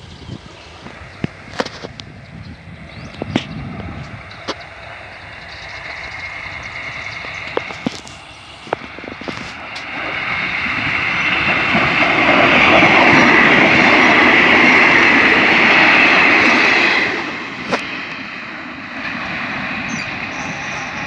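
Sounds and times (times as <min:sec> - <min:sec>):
passenger train passing at speed: 0:00.0 - 0:21.0.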